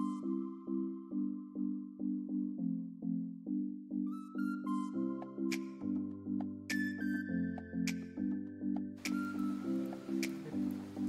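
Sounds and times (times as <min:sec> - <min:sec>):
background music with low notes: 0:00.0 - 0:11.0.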